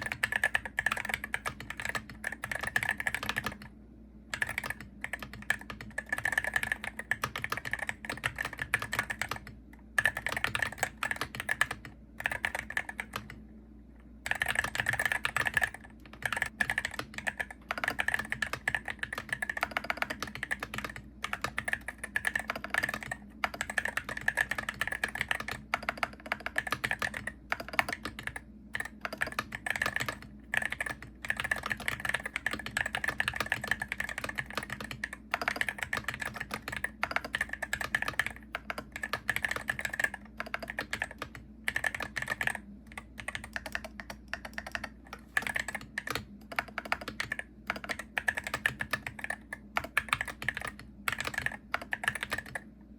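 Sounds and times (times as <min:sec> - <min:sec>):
keyboard typing clicks: 0:00.0 - 0:03.7, 0:04.3 - 0:13.4, 0:14.2 - 0:52.7.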